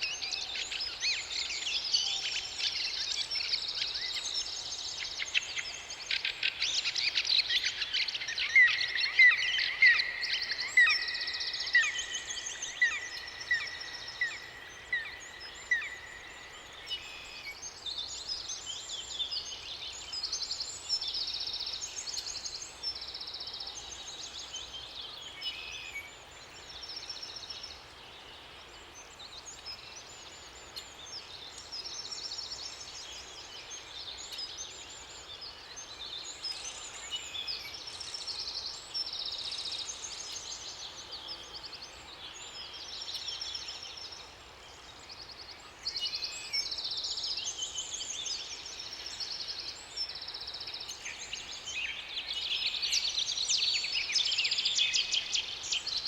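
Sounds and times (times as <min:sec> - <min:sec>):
faint background hiss: 0:00.0 - 0:56.0
songbirds singing and chirping: 0:00.0 - 0:56.0.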